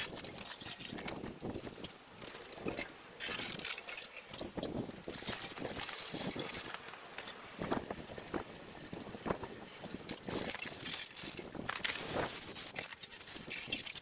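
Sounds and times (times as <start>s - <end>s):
hose water spraying on metal: 0.0s - 14.0s.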